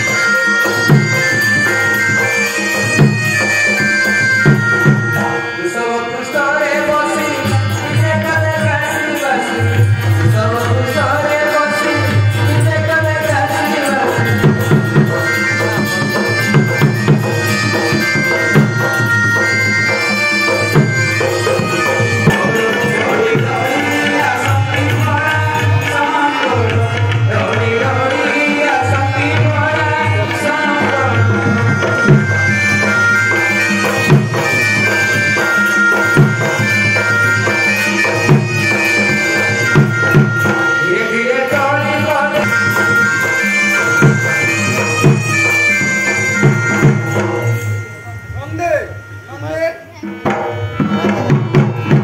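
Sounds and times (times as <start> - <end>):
barrel drum beaten in rhythm: 0.0 - 5.6, 6.8 - 52.0
wind instrument melody: 0.0 - 52.0.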